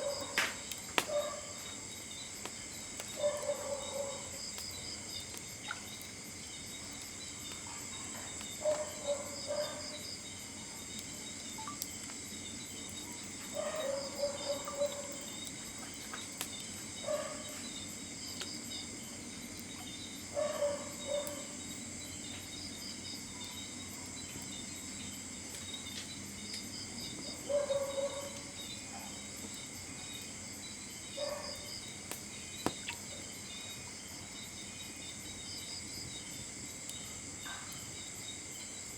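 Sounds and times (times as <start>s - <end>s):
crickets and insects buzzing: 0.0s - 38.9s.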